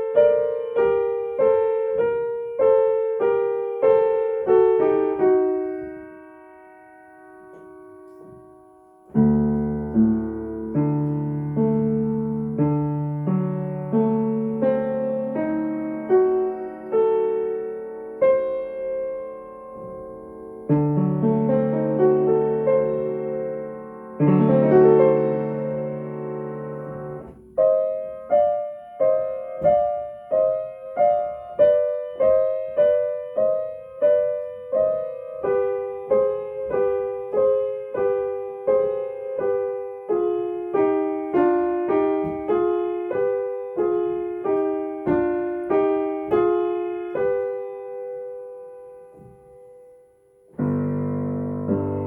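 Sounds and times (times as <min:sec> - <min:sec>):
solo piano chords: 0:00.0 - 0:52.0.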